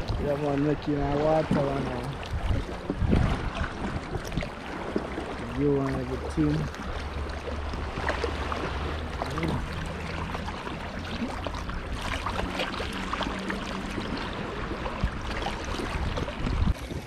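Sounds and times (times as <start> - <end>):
water splashing from wading: 0.0 - 17.0.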